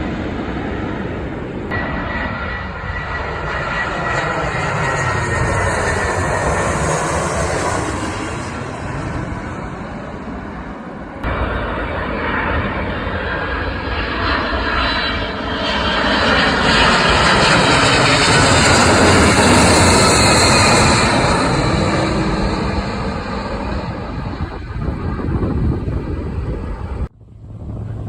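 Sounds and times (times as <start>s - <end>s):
airplane engines roaring: 0.0s - 28.0s.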